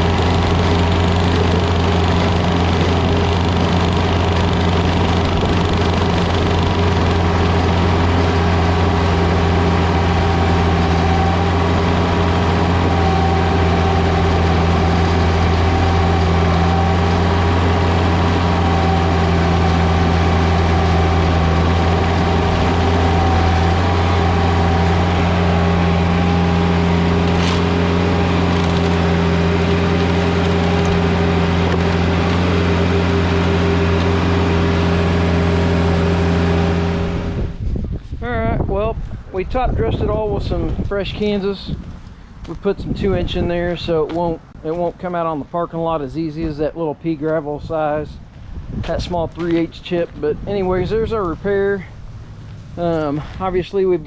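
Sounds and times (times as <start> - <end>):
heavy equipment engine droning: 0.0 - 54.0.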